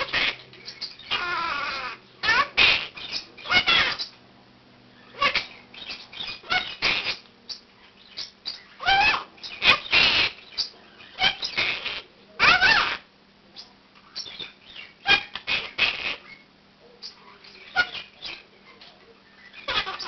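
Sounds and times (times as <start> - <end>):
parakeet squawking and chirping: 0.0 - 4.2, 4.9 - 13.1, 14.0 - 20.0.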